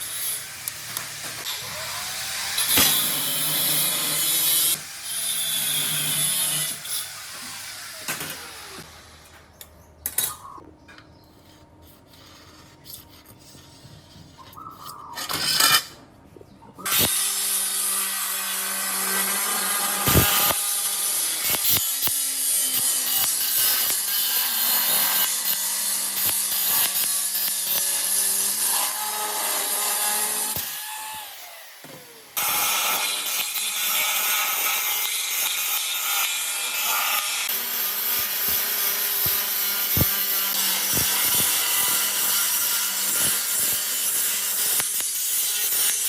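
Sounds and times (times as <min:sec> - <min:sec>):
power tool cutting: 0:00.0 - 0:09.2, 0:16.8 - 0:46.0.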